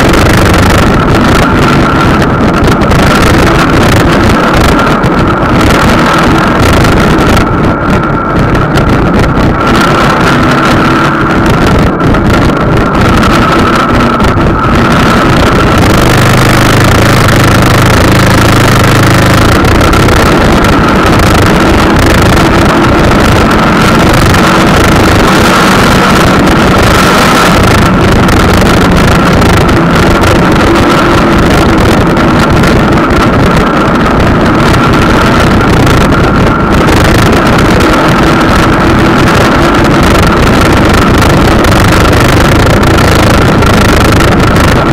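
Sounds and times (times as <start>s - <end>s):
motorcycle engine running: 0.0s - 44.9s
steady high whine: 0.0s - 44.9s
wind rush on microphone: 0.0s - 44.9s.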